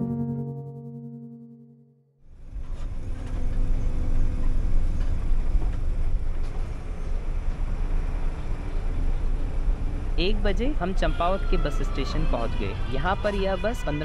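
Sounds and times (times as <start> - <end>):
bus engine and road rumble: 2.3 - 14.0.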